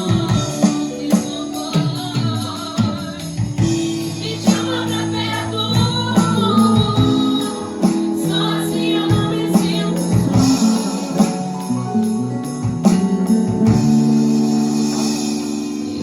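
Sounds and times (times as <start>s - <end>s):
drums and cymbal hits: 0.0s - 16.0s
electric guitar: 0.0s - 16.0s
keyboard chords: 0.0s - 16.0s.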